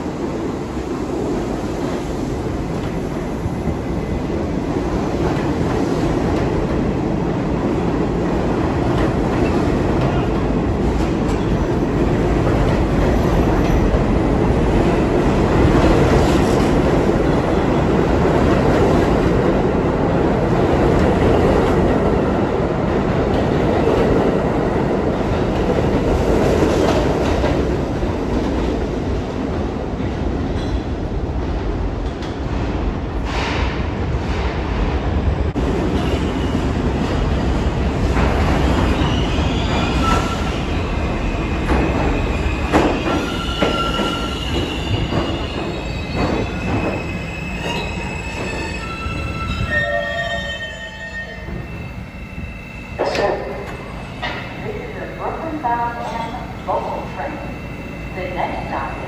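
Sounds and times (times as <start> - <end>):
subway train rumbling on rails: 0.0 - 59.0.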